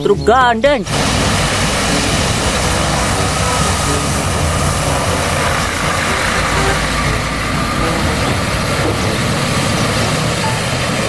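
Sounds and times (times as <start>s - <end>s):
heavy diesel truck engine: 0.8s - 11.0s
tyre and road noise: 0.8s - 11.0s.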